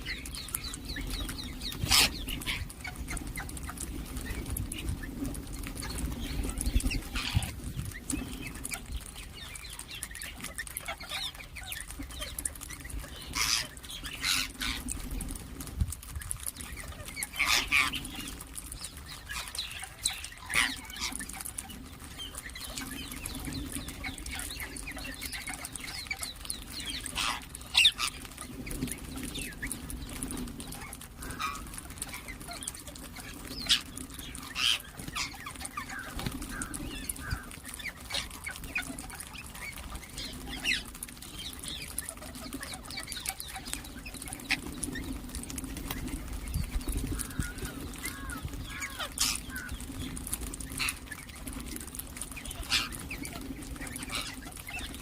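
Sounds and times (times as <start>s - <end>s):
parakeets screeching: 0.0s - 3.6s, 5.8s - 15.1s, 16.2s - 55.0s.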